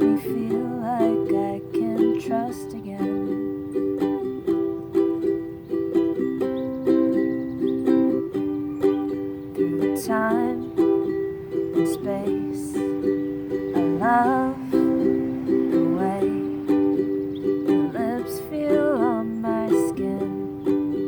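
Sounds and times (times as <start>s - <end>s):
plucked string instrument strumming: 0.0s - 21.0s.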